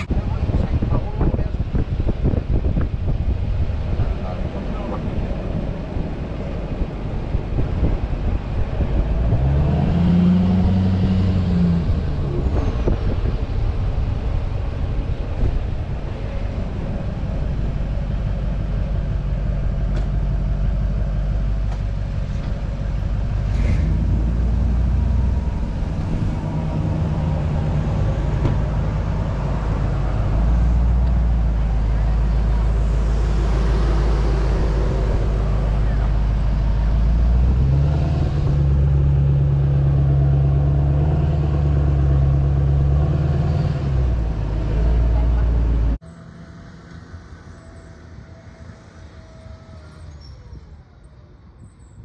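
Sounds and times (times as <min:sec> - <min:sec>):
car engine hum: 0:00.0 - 0:52.0
road noise inside car: 0:00.0 - 0:52.0.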